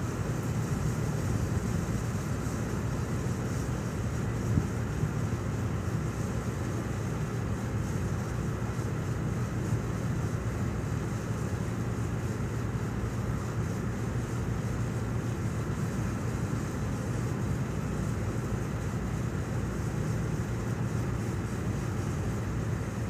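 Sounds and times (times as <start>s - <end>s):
ship engine low drone: 0.0s - 23.0s.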